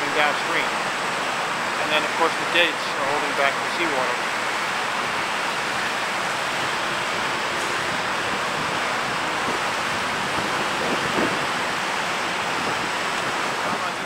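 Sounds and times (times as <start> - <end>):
churning river water rushing: 0.0 - 14.0.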